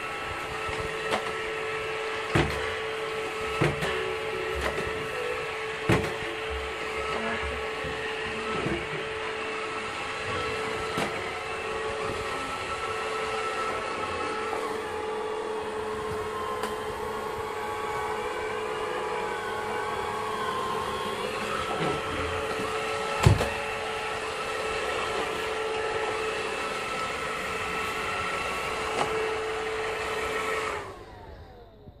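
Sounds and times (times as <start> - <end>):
robot vacuum whirring hum: 0.0 - 32.0.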